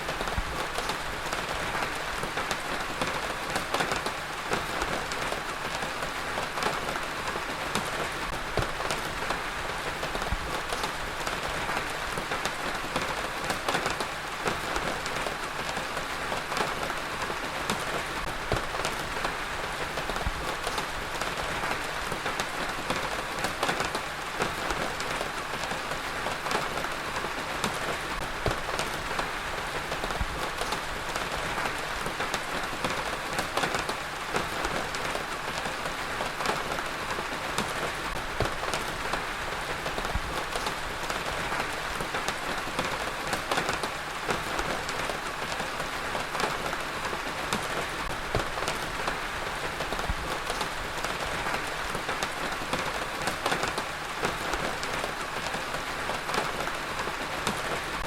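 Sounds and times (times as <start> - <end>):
heavy rain falling: 0.0 - 58.0
raindrops pattering on a surface: 0.0 - 58.0.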